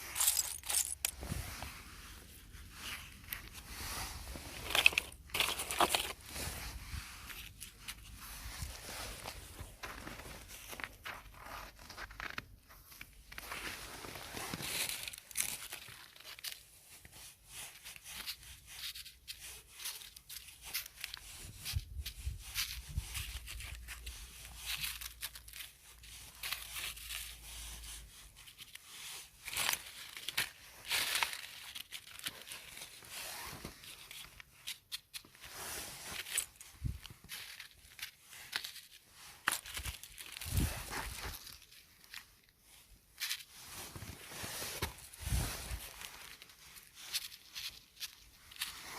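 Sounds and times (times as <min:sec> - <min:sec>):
crackling and rustling: 0:00.0 - 0:48.9.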